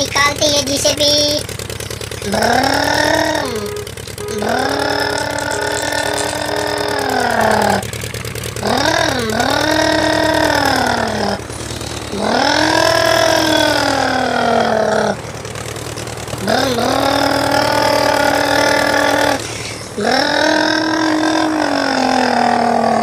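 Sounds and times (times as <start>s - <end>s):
steady low hum: 0.0s - 22.8s
toy vehicle engine revving: 0.0s - 23.0s.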